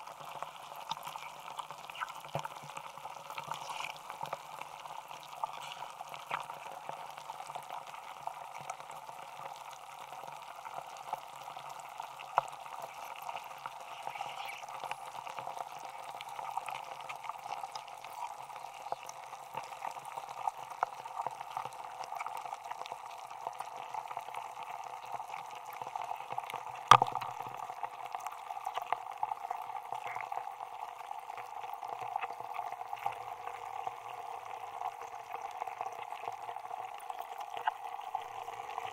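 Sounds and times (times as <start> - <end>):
fizz of tiny crackles and pops: 0.0 - 38.9.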